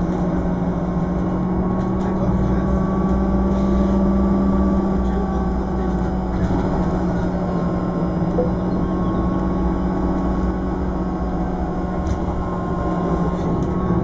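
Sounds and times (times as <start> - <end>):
road and running noise: 0.0 - 14.0.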